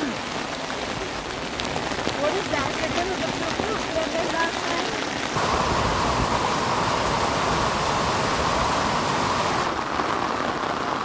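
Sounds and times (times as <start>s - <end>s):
rain on a wet street: 0.0s - 11.0s
water rushing down a gully: 0.0s - 11.0s.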